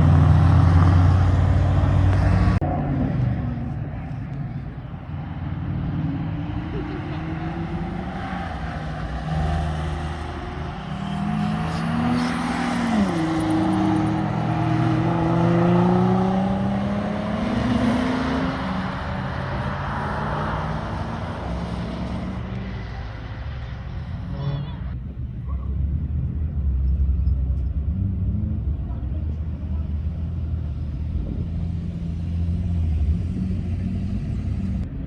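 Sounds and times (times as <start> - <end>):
car engine accelerating hard: 0.0 - 4.3, 5.3 - 24.0, 26.0 - 34.9.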